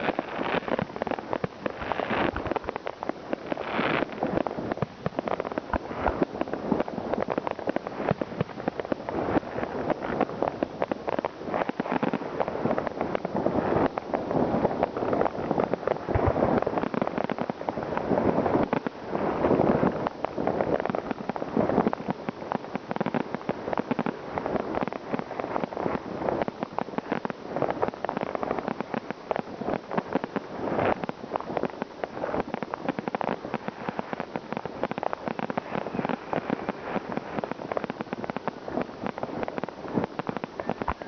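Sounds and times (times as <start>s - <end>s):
fireworks and firecrackers banging: 0.0s - 41.0s.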